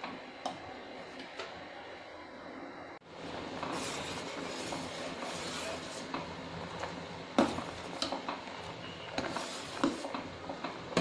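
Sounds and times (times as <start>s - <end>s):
milk boiling with steady hiss: 0.0s - 11.0s.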